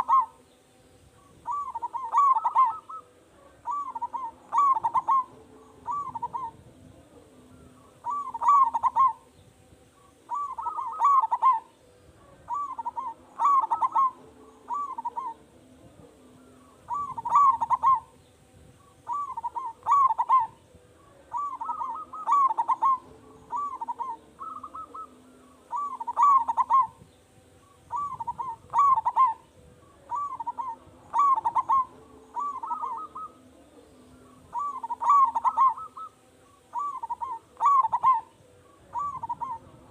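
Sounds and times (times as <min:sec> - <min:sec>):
dove cooing: 0:00.0 - 0:00.4, 0:01.1 - 0:09.3, 0:09.9 - 0:18.2, 0:18.8 - 0:39.9
faint steady hum: 0:00.0 - 0:39.9.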